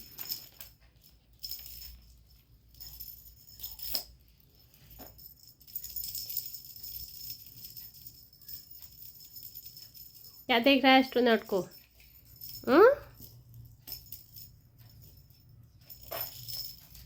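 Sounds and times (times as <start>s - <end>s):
faint jingling: 0.0s - 17.0s.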